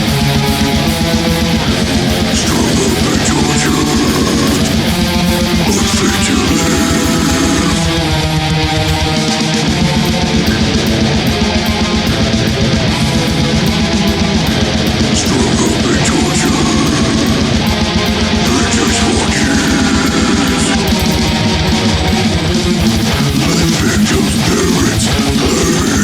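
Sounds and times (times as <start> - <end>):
distorted electric guitar riffing: 0.0 - 26.0
squealing guitar slides: 0.0 - 26.0.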